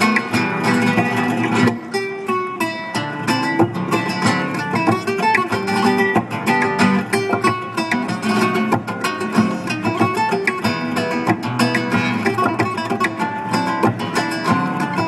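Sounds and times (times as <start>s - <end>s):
acoustic guitar plucked melody: 0.0s - 15.0s
looped percussion beats: 0.0s - 15.0s.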